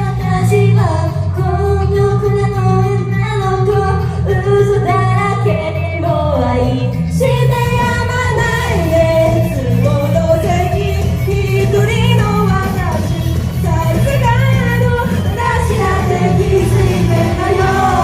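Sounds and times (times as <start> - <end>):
pop backing track over loudspeakers: 0.0 - 18.0
women singing live: 0.0 - 18.0.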